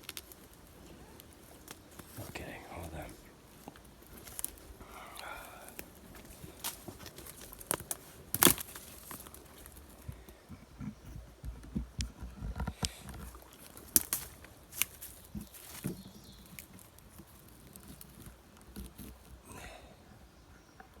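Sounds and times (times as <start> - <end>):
twigs crackling and snapping: 0.0 - 19.5.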